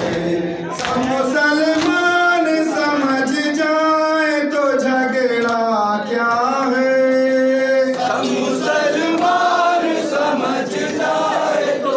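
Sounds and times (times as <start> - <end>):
men chanting a mourning lament: 0.0 - 11.9.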